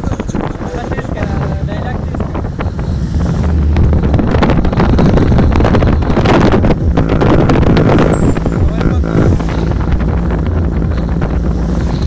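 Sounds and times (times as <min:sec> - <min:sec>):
car road noise on wet road: 0:00.0 - 0:12.0
wind rushing over microphone: 0:00.0 - 0:12.0.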